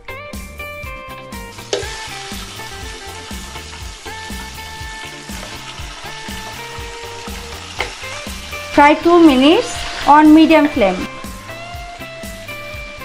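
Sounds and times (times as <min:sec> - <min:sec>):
meat sizzling in oil: 0:01.3 - 0:13.0.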